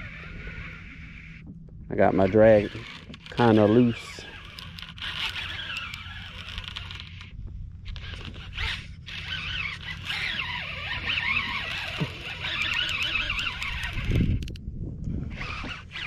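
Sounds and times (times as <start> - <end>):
fishing reel drag buzzing: 0.0 - 14.6, 15.3 - 16.0.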